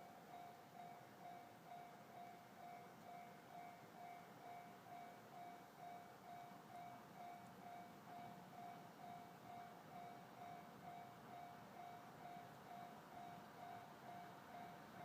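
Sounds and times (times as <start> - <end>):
level crossing alarm ringing: 0.0 - 15.0.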